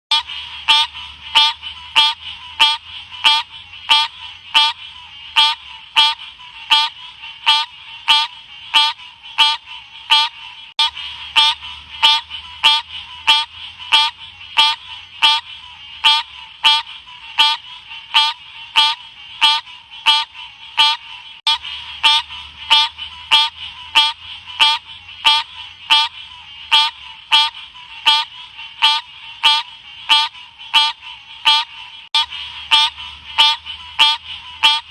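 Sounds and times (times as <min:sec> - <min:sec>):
frog chirping calls: 0:00.1 - 0:34.9.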